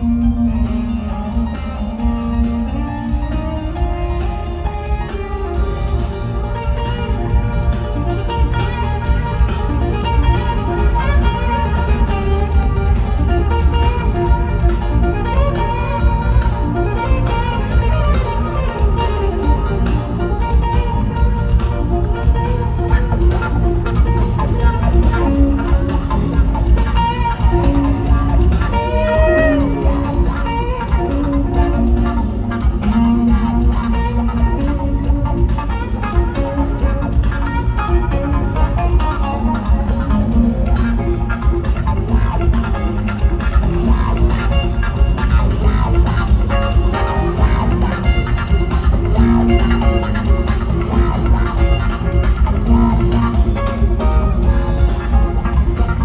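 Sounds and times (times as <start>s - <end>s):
guitar playing melodic lines: 0.0s - 56.0s
steady bass: 0.0s - 56.0s.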